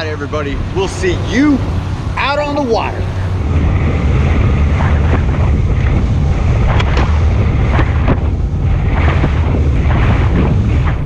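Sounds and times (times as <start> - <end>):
boat engine and hull rumble: 0.0 - 11.0
water splashes: 0.0 - 11.0
wind buffeting microphone: 0.0 - 11.0.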